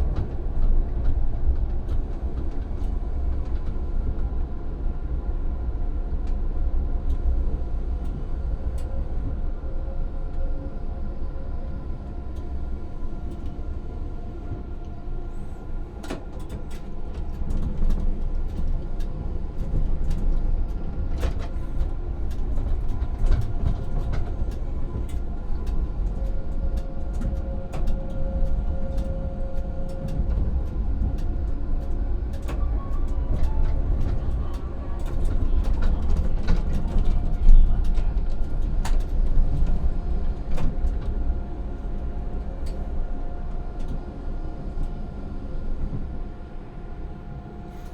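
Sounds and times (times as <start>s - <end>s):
tram wheels rumbling on rail: 0.0s - 47.9s.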